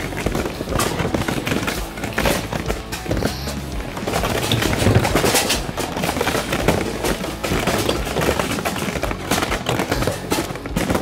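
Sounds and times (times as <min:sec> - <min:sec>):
plate armour clanking: 0:00.0 - 0:11.0.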